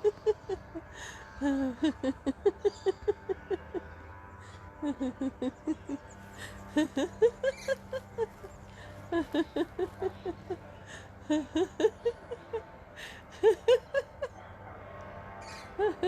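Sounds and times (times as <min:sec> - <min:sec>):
woman laughing: 0:00.0 - 0:14.4, 0:15.7 - 0:16.0.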